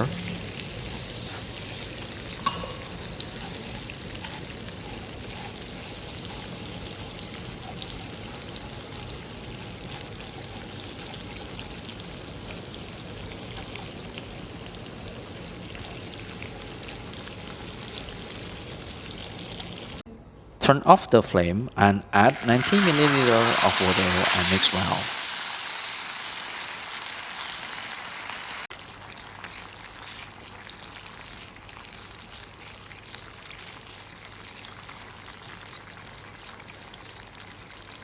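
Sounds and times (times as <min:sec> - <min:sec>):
butter and sugar sizzling in a pan: 0:00.0 - 0:20.0, 0:22.3 - 0:38.0.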